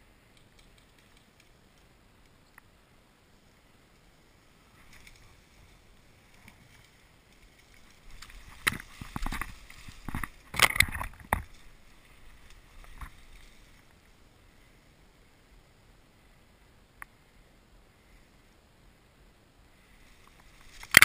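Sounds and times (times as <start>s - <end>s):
reeds and grass rustling: 0.1s - 18.6s, 19.6s - 21.0s.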